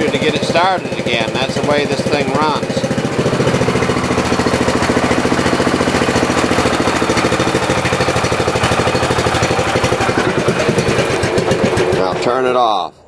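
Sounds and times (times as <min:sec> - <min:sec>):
riding mower engine idling: 0:00.0 - 0:13.0.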